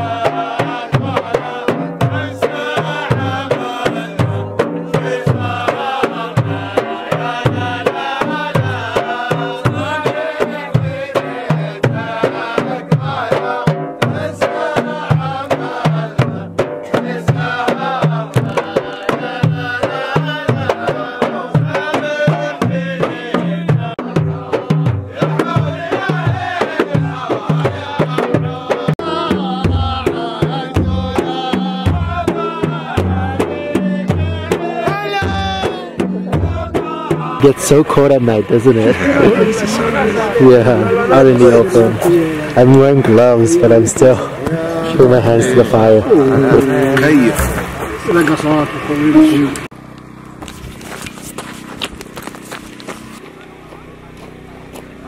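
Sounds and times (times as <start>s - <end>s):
frame drums beating: 0.0s - 49.7s
men singing: 0.0s - 49.7s.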